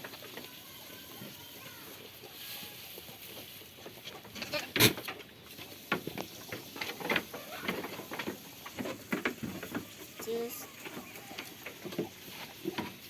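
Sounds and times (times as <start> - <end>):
goats clicking and knocking: 0.0 - 13.0.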